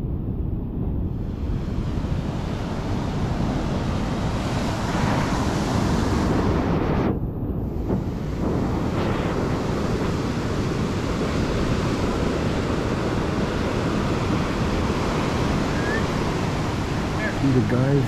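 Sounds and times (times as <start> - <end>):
wind buffeting microphone: 0.0 - 18.0
ocean surf washing on beach: 1.2 - 7.1, 7.7 - 18.0.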